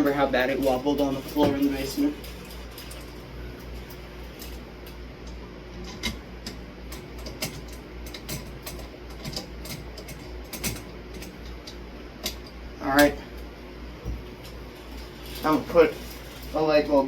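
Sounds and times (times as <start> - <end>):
pedestal fan humming: 0.0 - 17.0.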